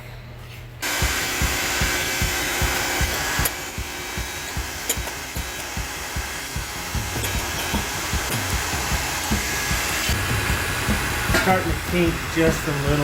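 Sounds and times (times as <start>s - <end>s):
tubing bender whirring: 0.8s - 13.0s.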